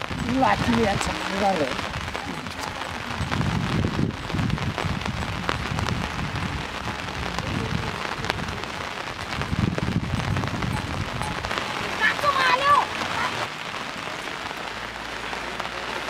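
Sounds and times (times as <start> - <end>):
low rumbling: 0.0 - 16.0
rain falling: 0.0 - 16.0.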